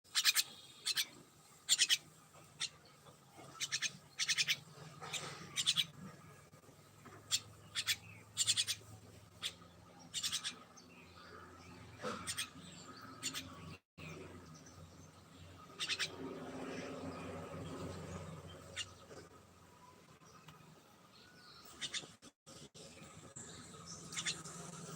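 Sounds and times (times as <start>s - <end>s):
small birds chirping: 0.1s - 24.9s.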